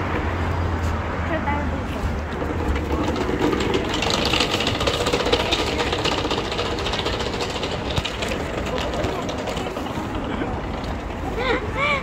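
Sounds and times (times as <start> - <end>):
engine running with fast rattle: 1.8 - 11.8.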